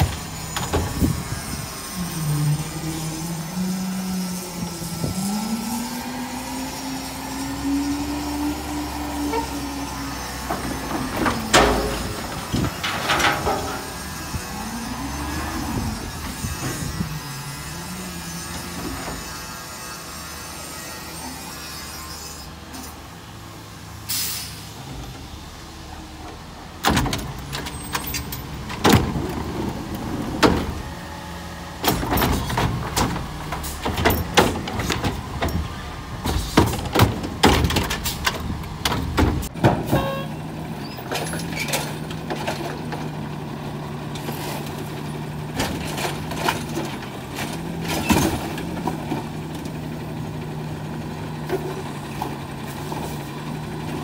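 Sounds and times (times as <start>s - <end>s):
truck engine humming: 0.0s - 19.5s, 22.5s - 54.0s
trash carts clanking and banging: 0.0s - 54.0s.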